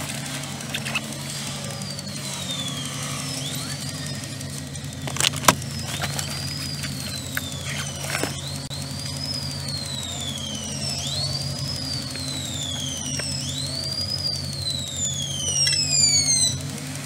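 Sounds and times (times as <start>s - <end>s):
car idling hum: 0.0s - 17.0s
siren wailing: 0.2s - 17.0s.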